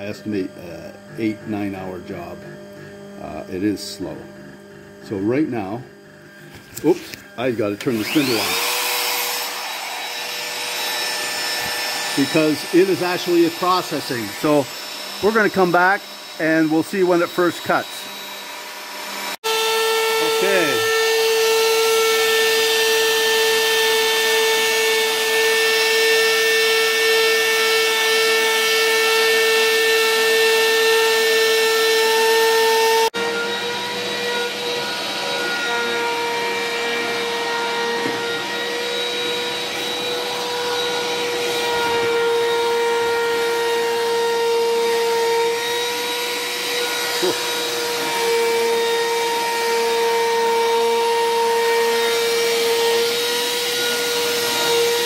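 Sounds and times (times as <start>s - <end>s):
router bit carving wood: 0.0s - 55.0s
router spindle whining: 0.0s - 55.0s.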